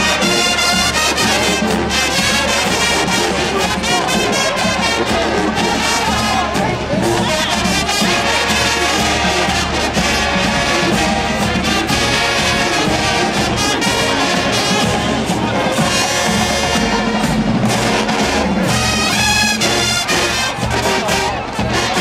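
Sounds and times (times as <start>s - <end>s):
drumline beat: 0.0s - 22.0s
trumpets: 0.0s - 22.0s.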